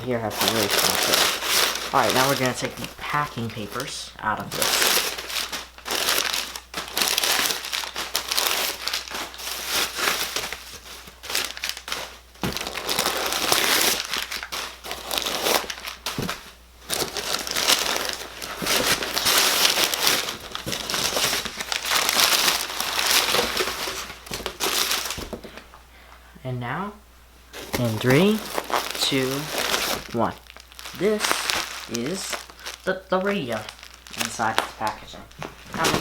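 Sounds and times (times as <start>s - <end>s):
packing paper crinkling: 0.0s - 25.8s, 27.5s - 36.0s.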